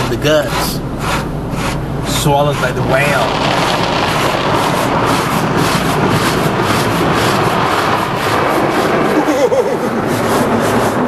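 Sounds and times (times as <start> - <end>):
car wash water spray: 0.0 - 11.0
rotating brushes on car: 0.0 - 11.0.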